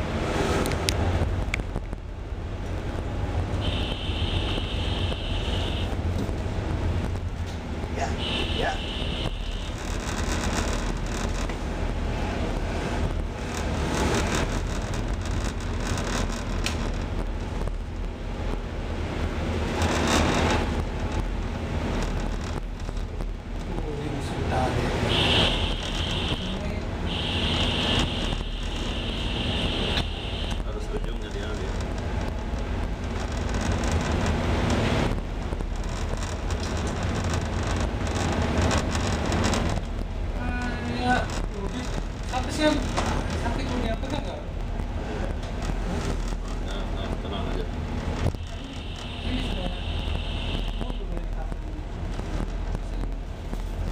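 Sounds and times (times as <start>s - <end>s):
ship engines rumbling: 0.0s - 53.9s
wind: 0.0s - 53.9s.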